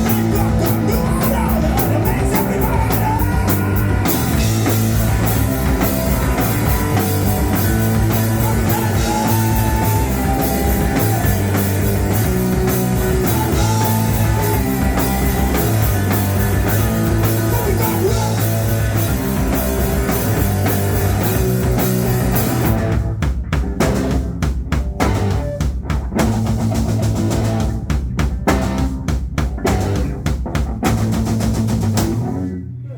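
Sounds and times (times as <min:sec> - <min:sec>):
drum kit hits: 0:00.0 - 0:32.3
bass guitar: 0:00.0 - 0:32.9
guitars: 0:00.0 - 0:32.9.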